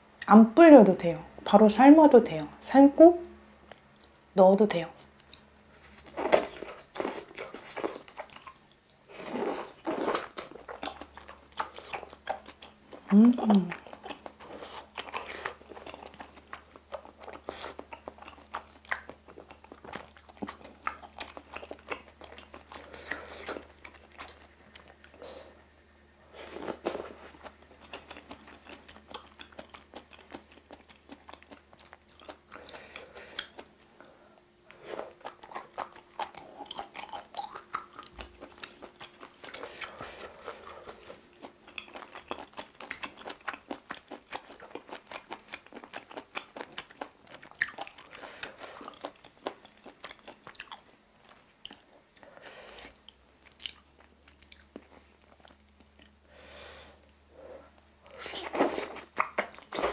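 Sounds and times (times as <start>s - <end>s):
chewing and wet mouth sounds: 5.0s - 56.3s, 57.7s - 59.9s.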